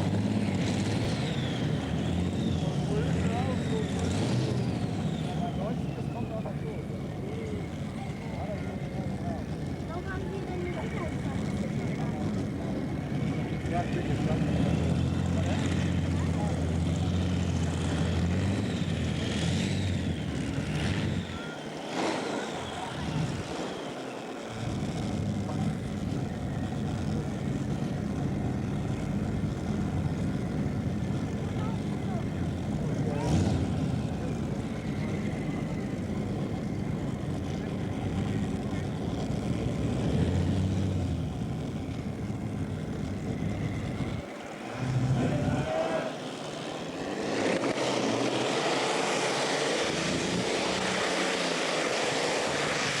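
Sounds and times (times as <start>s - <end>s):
tractor engine running loudly: 0.0s - 53.0s.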